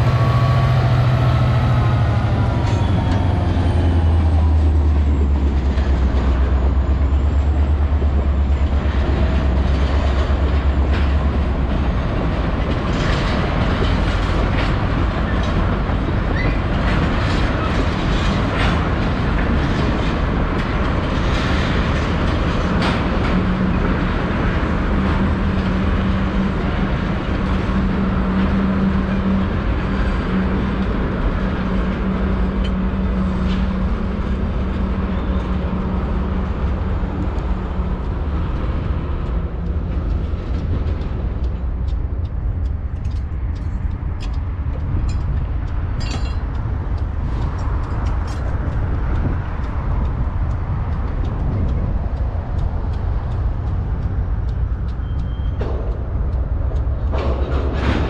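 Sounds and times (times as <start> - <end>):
diesel locomotive rumble: 0.0 - 58.0
wheels clacking over rail joints: 0.0 - 58.0.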